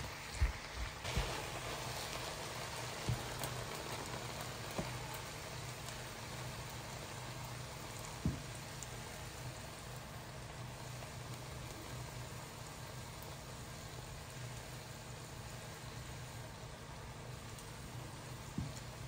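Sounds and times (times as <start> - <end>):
meat filling sizzling in a frying pan: 0.0 - 19.0.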